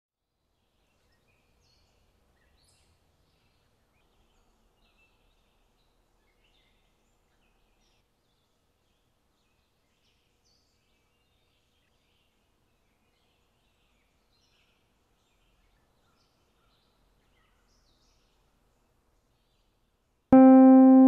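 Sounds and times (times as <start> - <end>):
low steady hiss: 0.2 - 21.0
faint birds chirping: 0.4 - 20.1.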